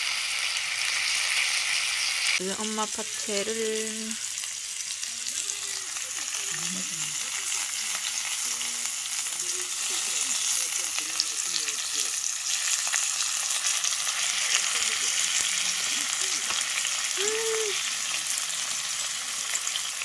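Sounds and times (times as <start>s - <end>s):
meat sizzling on a grill pan: 0.0s - 20.0s.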